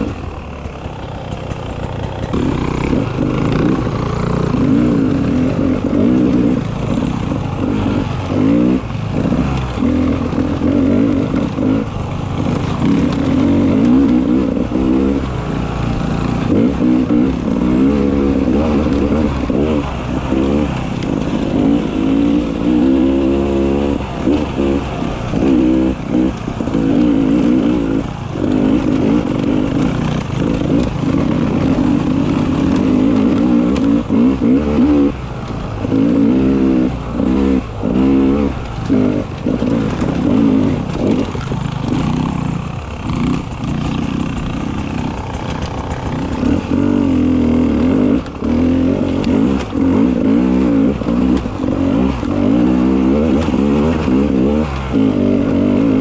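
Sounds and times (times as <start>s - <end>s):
two-stroke motorcycle engine revving: 0.0s - 56.0s.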